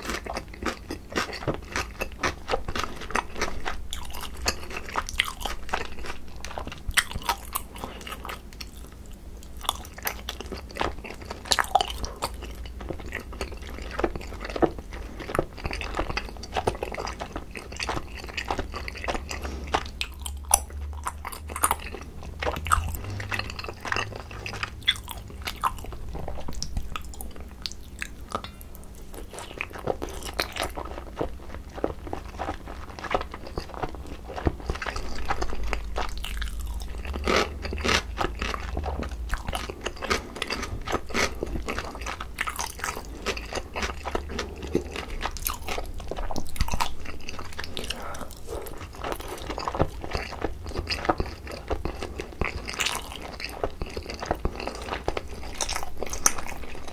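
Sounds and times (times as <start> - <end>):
close chewing with wet mouth clicks: 0.0 - 56.9.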